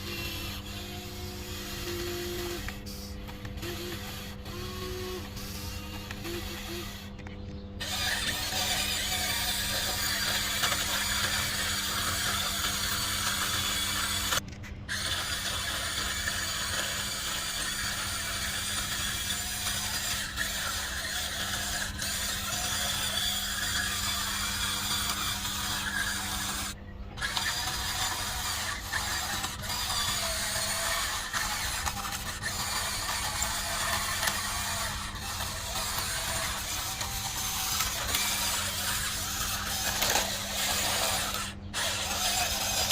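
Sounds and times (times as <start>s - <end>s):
toy electric motors whining: 0.0s - 42.9s.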